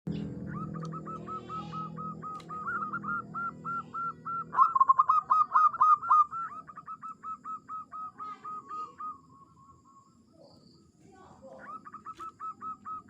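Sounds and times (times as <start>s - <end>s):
dove cooing: 0.1s - 10.1s, 11.1s - 13.0s.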